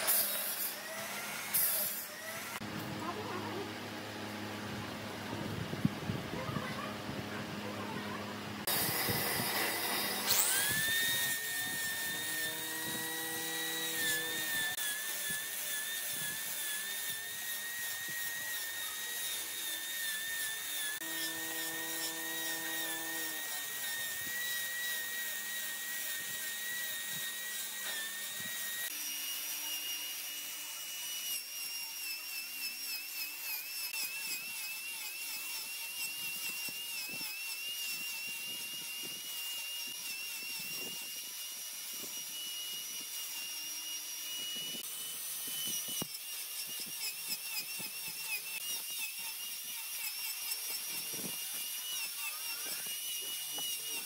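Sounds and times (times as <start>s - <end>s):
power tool motor whine: 0.0s - 54.0s.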